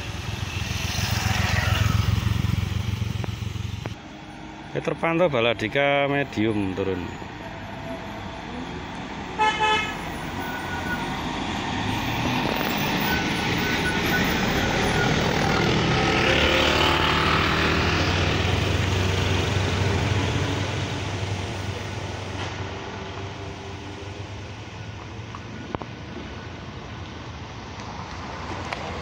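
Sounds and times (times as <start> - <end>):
motorbikes passing: 0.0 - 7.0, 8.6 - 29.0
bus passing: 0.0 - 29.0.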